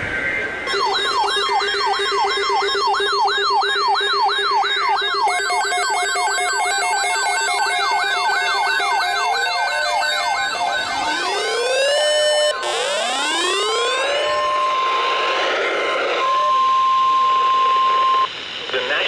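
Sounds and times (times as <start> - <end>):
electronic siren yelping and wailing: 0.7 - 18.6.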